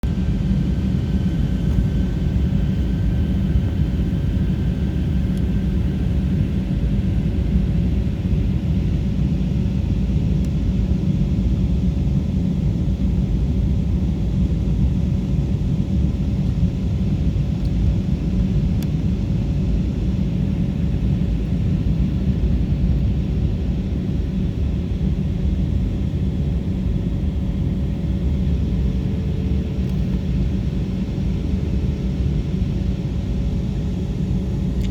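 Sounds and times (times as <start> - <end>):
deep rumble of jet engines: 0.0 - 34.9.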